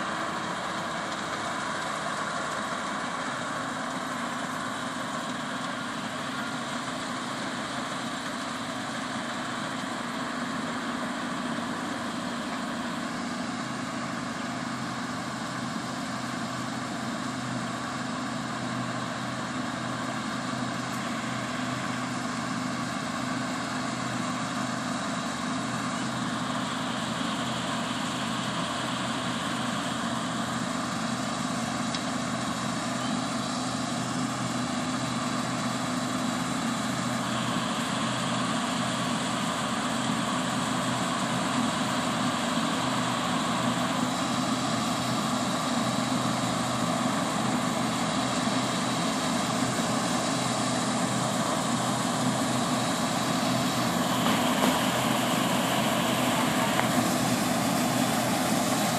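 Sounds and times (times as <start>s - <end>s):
combine harvester drone: 0.0s - 58.9s.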